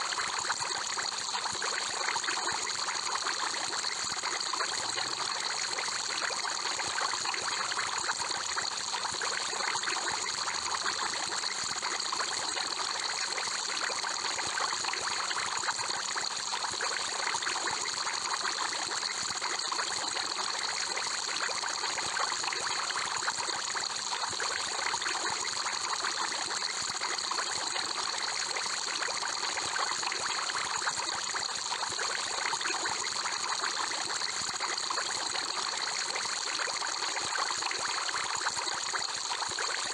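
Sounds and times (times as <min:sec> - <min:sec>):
aquarium air bubbler bubbling: 0:00.1 - 0:39.9.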